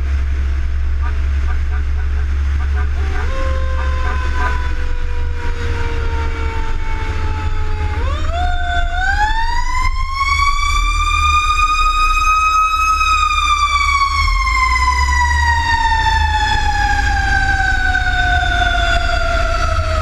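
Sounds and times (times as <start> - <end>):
heavy engine and road rumble: 0.0 - 20.0
fire engine siren: 0.9 - 20.0.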